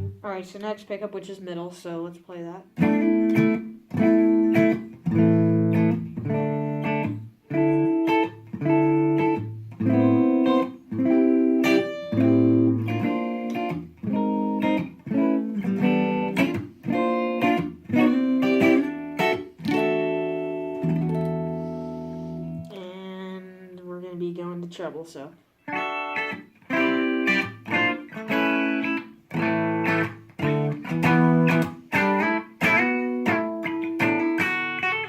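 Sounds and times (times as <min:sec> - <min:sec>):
clean electric guitar chords: 0:00.0 - 0:00.2, 0:02.8 - 0:22.8, 0:25.7 - 0:35.0.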